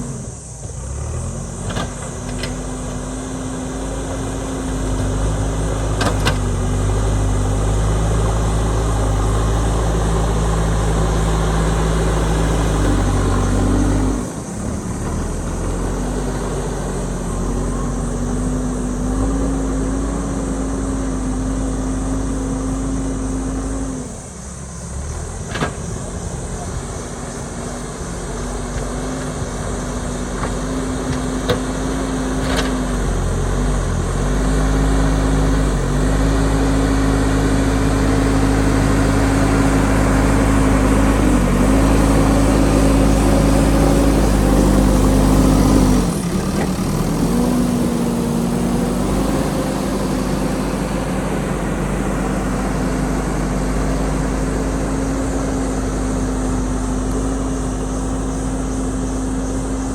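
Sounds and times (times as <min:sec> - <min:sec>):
digger diesel engine under load: 0:00.0 - 0:59.9.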